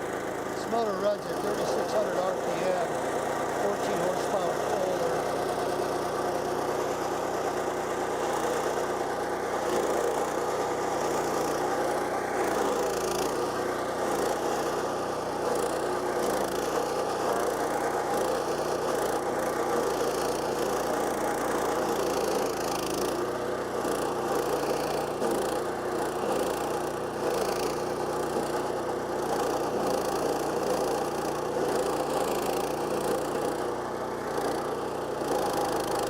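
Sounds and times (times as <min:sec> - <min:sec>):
small gas engine running: 0:00.0 - 0:36.0.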